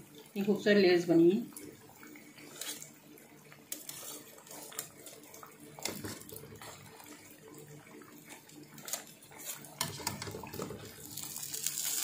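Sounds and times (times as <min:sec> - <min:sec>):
dough frying in hot oil: 0:00.0 - 0:12.0.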